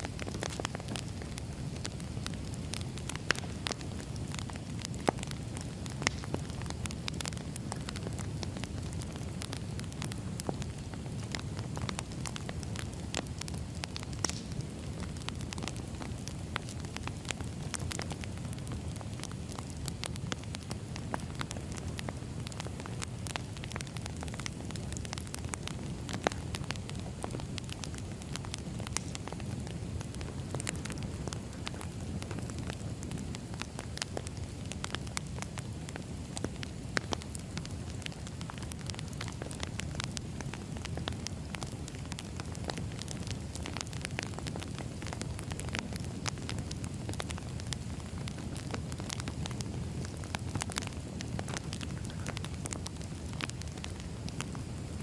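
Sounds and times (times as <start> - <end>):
fire crackling and popping: 0.0 - 55.0
low rumble of flame: 0.0 - 55.0.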